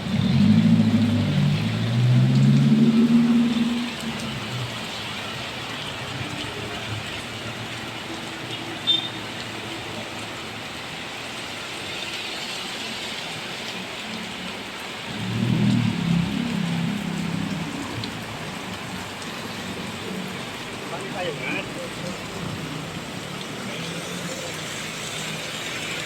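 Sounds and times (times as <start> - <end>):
rain splashing on surfaces: 0.0 - 26.0.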